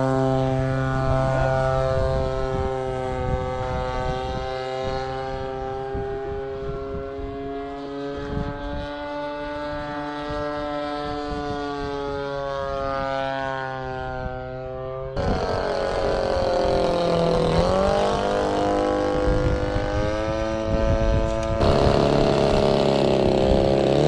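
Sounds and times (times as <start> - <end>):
model airplane motor droning: 0.0 - 24.0.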